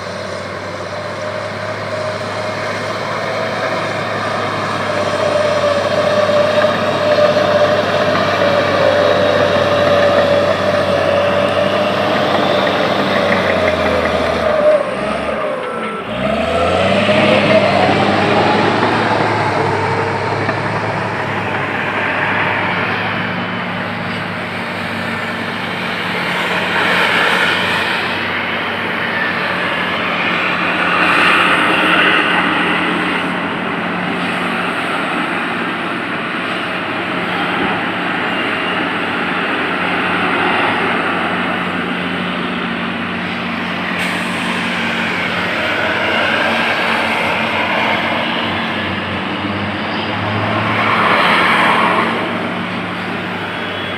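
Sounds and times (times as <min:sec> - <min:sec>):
diesel engine drone: 0:00.0 - 0:53.9
rushing noise: 0:00.0 - 0:53.9.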